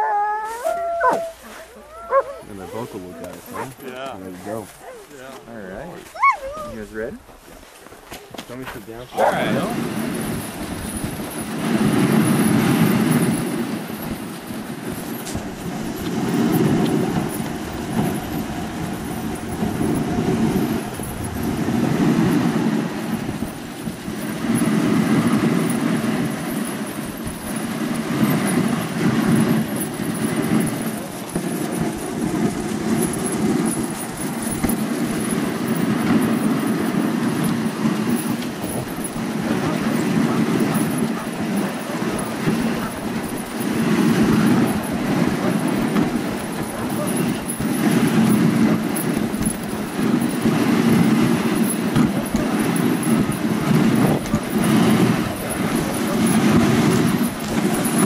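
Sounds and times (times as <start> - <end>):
dogs running: 0.0 - 58.0
sled runners sliding over snow: 0.0 - 58.0.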